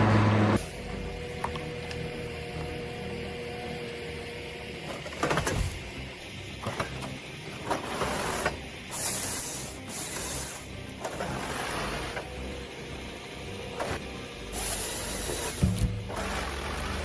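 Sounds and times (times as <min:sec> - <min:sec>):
heavy wood-processing machinery: 0:00.0 - 0:17.0.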